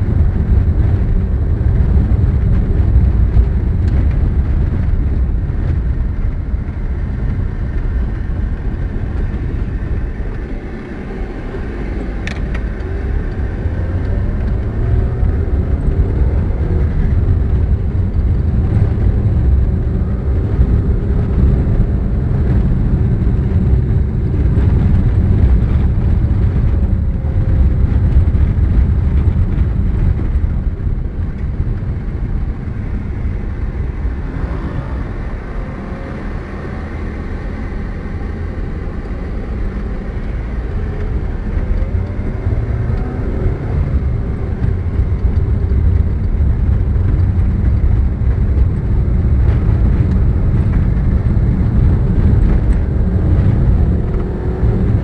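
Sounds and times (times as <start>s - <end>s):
car driving on gravel road: 0.0s - 55.0s
car engine: 0.0s - 55.0s.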